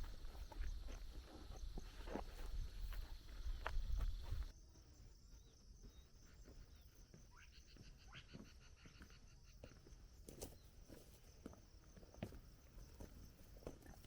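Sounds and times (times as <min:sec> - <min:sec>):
soft footsteps on a trail: 0:00.0 - 0:14.0.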